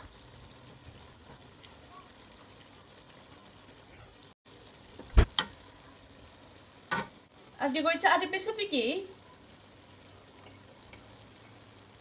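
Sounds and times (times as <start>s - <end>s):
sauce sizzling in a pot: 0.0s - 12.0s.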